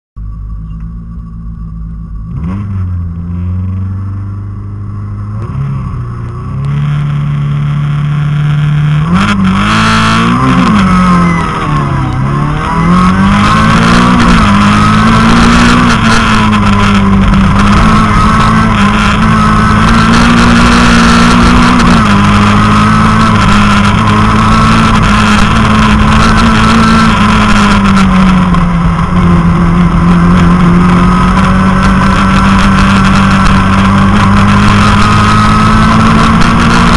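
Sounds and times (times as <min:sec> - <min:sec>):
car engine revving: 0:00.2 - 0:36.9.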